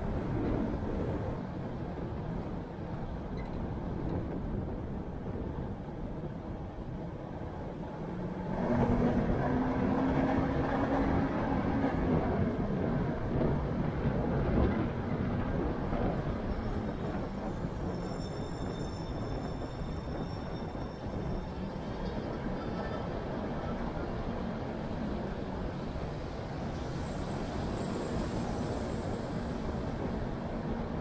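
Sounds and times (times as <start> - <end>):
road and tyre noise: 0.0 - 31.0.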